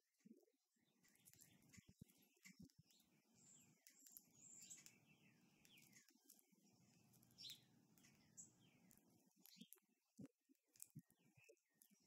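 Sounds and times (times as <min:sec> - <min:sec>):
faint birdsong chirps: 0:00.2 - 0:12.0.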